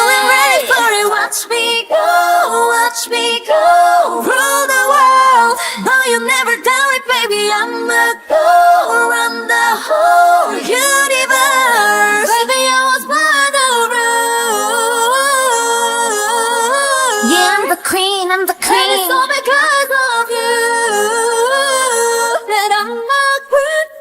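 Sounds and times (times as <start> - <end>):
woman singing vocal run: 0.0 - 24.0.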